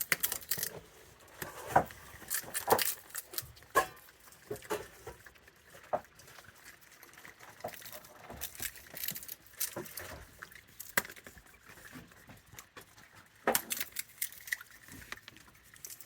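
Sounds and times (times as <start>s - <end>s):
raccoons clattering dishes: 0.0s - 16.0s.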